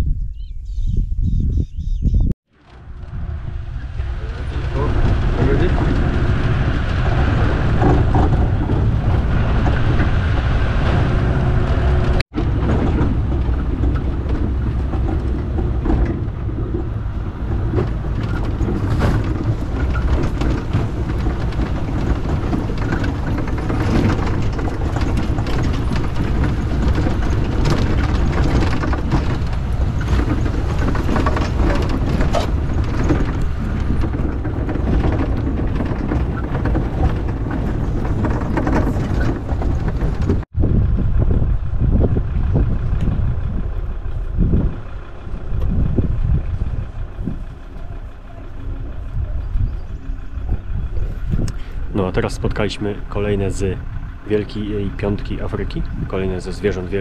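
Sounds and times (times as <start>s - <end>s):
vehicle engine and road rumble: 0.0s - 57.0s
knocks and rattles: 2.6s - 57.0s.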